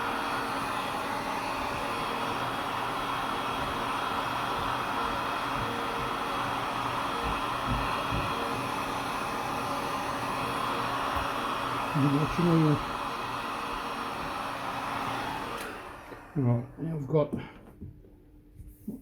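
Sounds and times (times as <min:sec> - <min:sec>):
heat gun blowing: 0:00.0 - 0:17.6.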